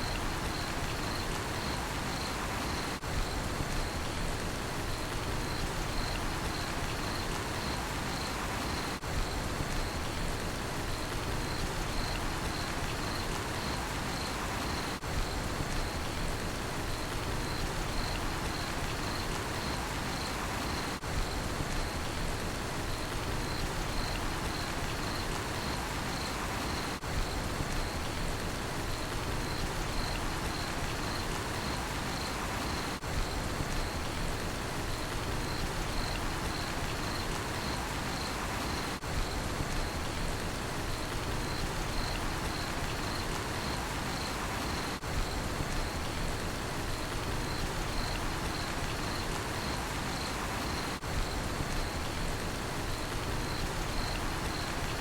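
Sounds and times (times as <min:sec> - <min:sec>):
cricket chirping: 0:00.0 - 0:04.2, 0:04.8 - 0:10.2, 0:10.9 - 0:16.2, 0:16.8 - 0:22.2, 0:22.9 - 0:28.2, 0:28.9 - 0:40.2, 0:40.8 - 0:55.0
steady rain falling: 0:00.0 - 0:55.0.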